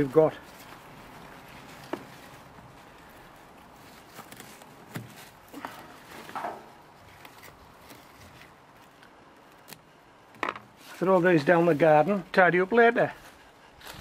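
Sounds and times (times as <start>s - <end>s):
leaves rustling: 0.0s - 14.0s.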